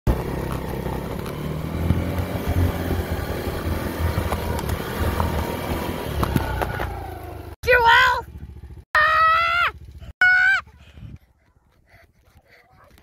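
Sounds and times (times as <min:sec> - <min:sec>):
vehicle rumbling over rough ground: 0:00.1 - 0:13.0.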